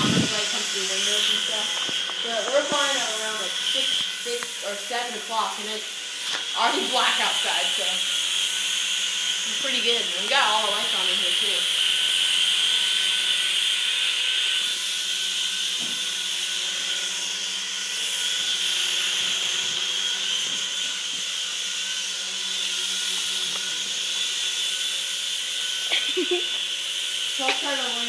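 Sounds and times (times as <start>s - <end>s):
toy helicopter whirring: 0.0s - 28.0s.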